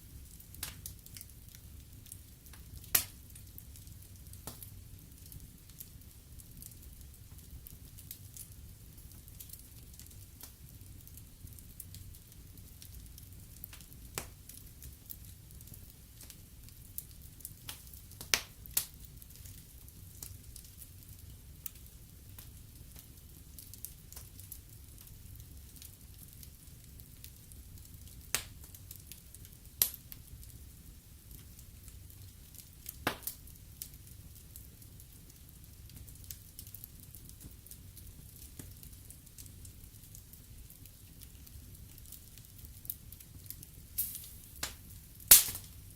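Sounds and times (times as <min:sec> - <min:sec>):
fire crackles and pops: 0:00.0 - 0:45.9
wood fire rumbling: 0:00.0 - 0:45.9.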